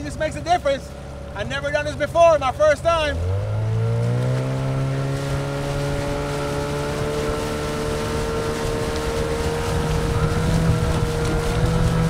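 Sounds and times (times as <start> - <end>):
outboard motor running: 0.0 - 12.0
rush of wind and water: 0.0 - 12.0.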